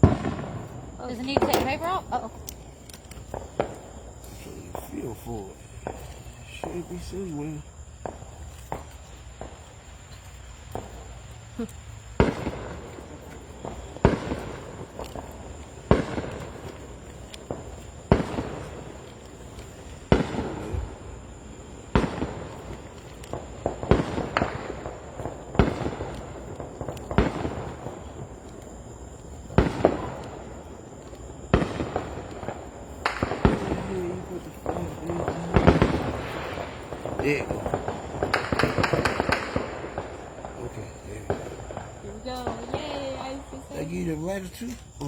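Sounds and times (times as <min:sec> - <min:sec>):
fireworks bangs with crackle: 0:00.0 - 0:45.0.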